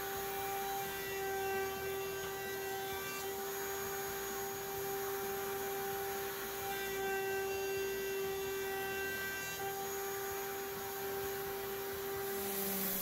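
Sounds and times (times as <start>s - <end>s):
router whining: 0.0s - 13.0s.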